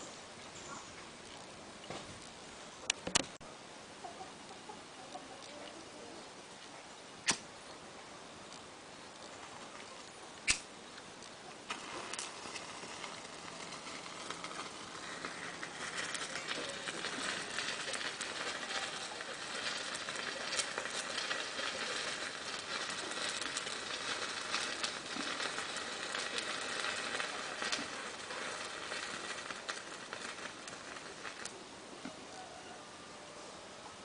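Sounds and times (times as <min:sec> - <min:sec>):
resin sizzling and crackling on charcoal: 0:00.0 - 0:34.0.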